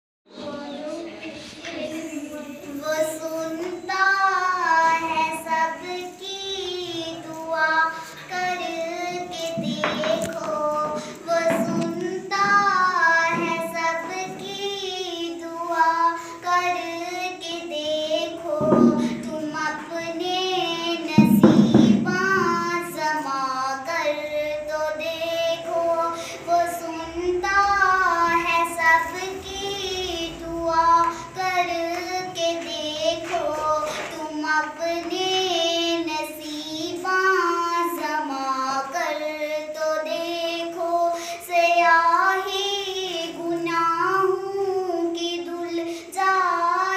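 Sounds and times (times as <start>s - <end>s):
girl singing unaccompanied: 0.3s - 46.9s.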